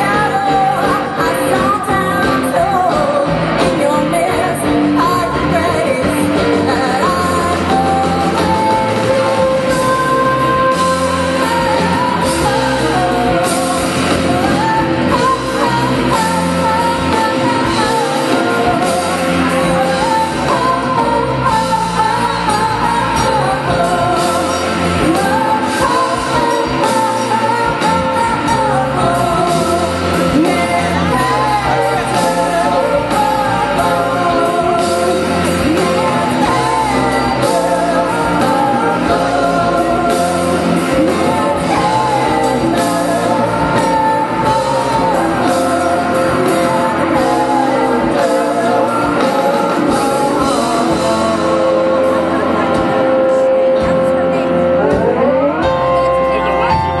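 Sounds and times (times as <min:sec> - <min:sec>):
woman singing: 0:00.0 - 0:56.1
live rock band playing: 0:00.0 - 0:57.0.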